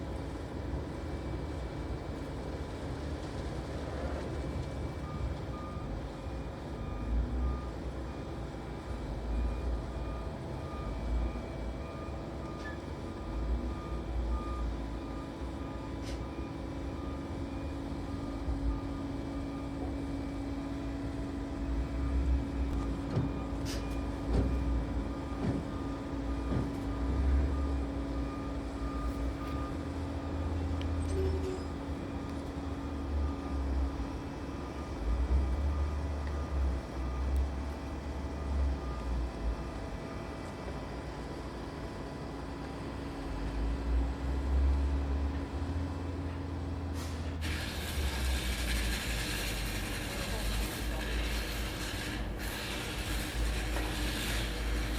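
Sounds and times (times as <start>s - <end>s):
backhoe engine rumbling: 0.0s - 54.9s
reversing alarm beeps: 4.0s - 41.0s, 47.0s - 54.9s.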